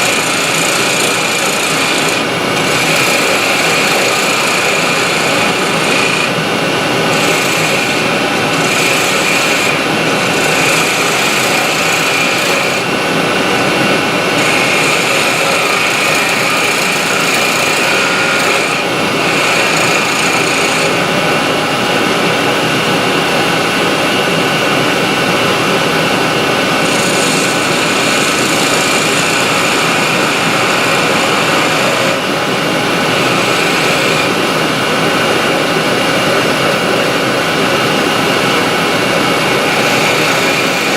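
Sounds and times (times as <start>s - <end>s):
turning tool cutting wood: 0.0s - 21.9s, 26.6s - 37.2s, 37.8s - 40.9s
dust extractor running: 0.0s - 40.9s
wood lathe running: 0.0s - 40.9s.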